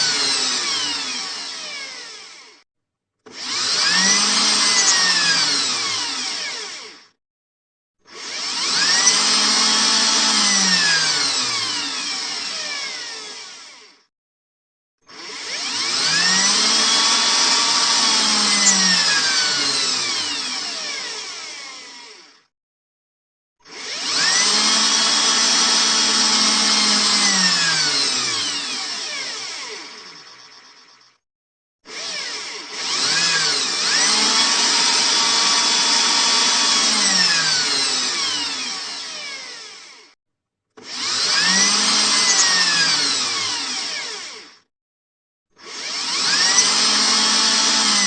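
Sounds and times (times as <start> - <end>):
electric drill motor whine: 0.0 - 2.6, 3.3 - 7.2, 8.0 - 14.1, 15.1 - 22.5, 23.6 - 31.2, 31.8 - 40.2, 40.8 - 44.7, 45.6 - 48.0.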